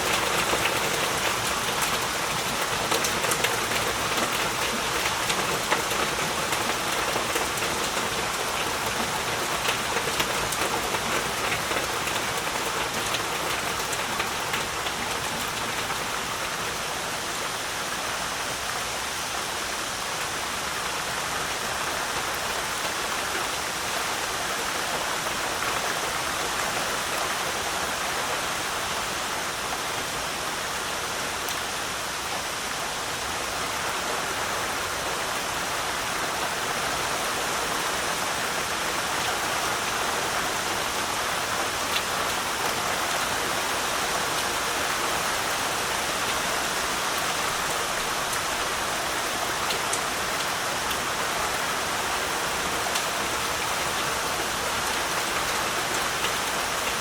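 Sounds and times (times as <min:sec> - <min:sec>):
heavy rain in a forest: 0:00.0 - 0:57.0.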